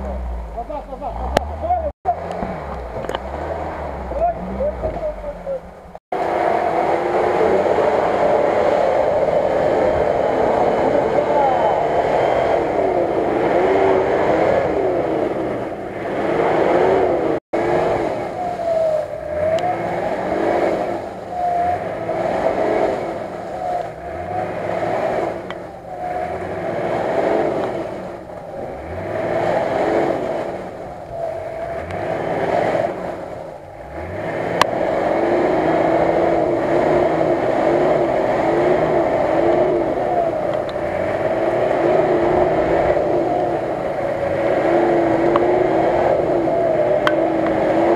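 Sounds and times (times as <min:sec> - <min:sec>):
engine revving: 0:00.0 - 0:47.9.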